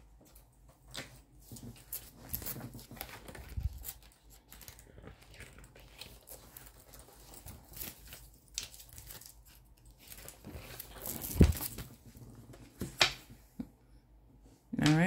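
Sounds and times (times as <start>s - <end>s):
paper rustling: 0.2s - 13.2s.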